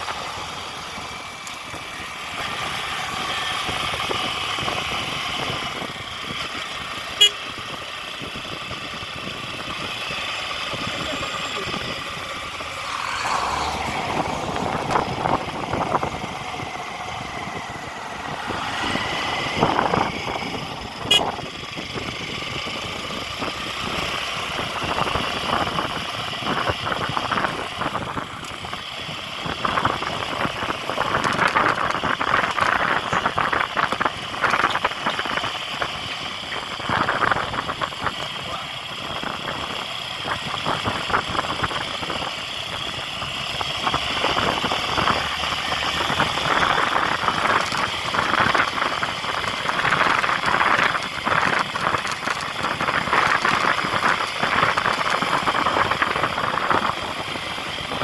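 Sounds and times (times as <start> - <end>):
motor vehicle engines running: 0.0 - 58.0.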